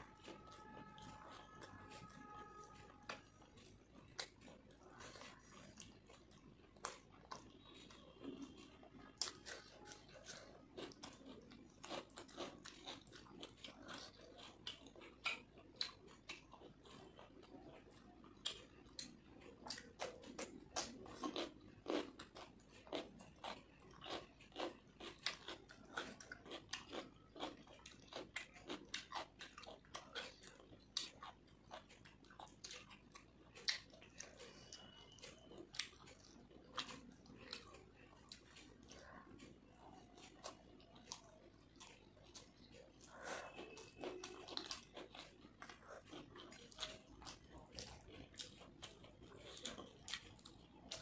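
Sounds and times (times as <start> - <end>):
person chewing and lip smacking: 0.0 - 51.0.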